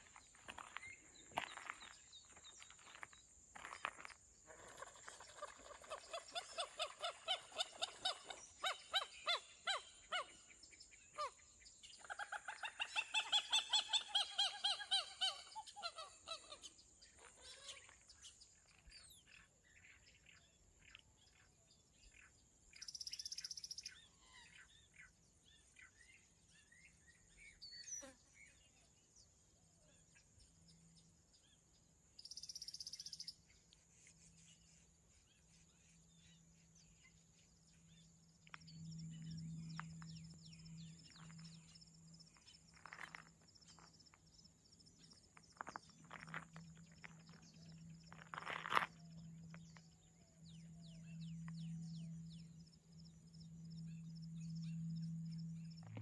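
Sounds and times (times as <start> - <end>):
desert birds calling harsh notes: 0.0 - 28.8, 29.8 - 56.0.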